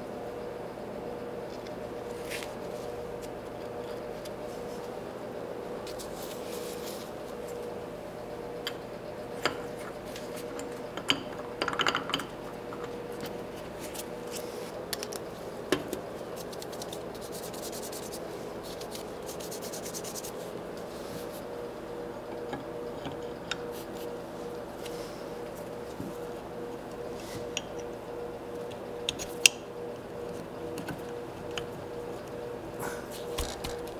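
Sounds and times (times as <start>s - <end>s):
steady hum: 0.0s - 33.9s.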